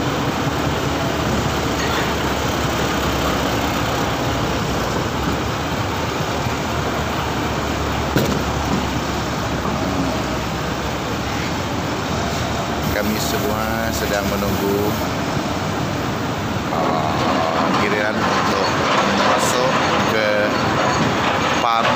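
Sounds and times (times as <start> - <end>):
diesel engine idling: 0.0 - 21.8.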